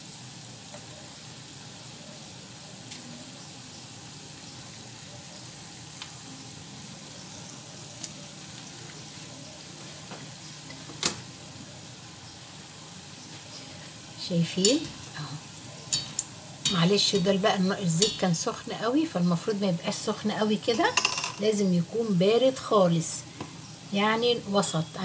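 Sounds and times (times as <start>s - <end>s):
dough sizzling in hot oil: 0.0s - 25.0s.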